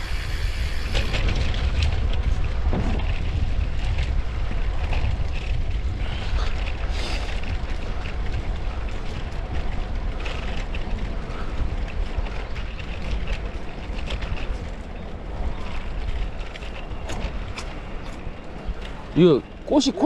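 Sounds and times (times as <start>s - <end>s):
faint ticks and rattles: 0.0s - 20.0s
wind buffeting microphone: 0.0s - 20.0s.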